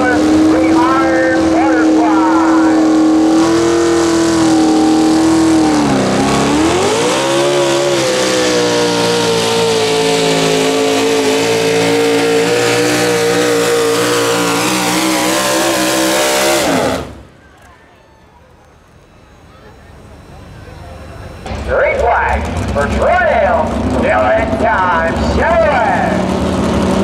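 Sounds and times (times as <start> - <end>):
truck engine revving high: 0.0 - 27.0.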